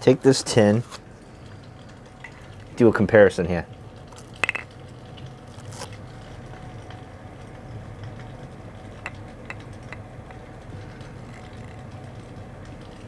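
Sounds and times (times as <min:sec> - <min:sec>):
space heater humming: 0:00.0 - 0:13.0.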